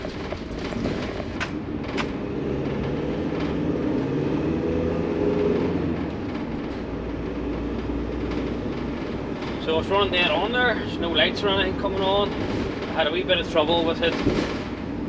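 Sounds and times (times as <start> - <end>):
road noise: 0.0 - 15.0
van diesel engine: 0.0 - 15.0.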